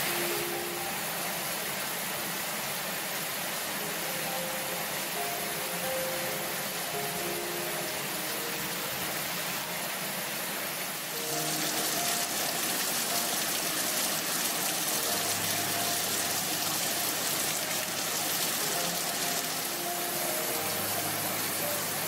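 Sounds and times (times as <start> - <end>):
heavy rain on foliage: 0.0 - 22.0
soft background music: 0.0 - 22.0.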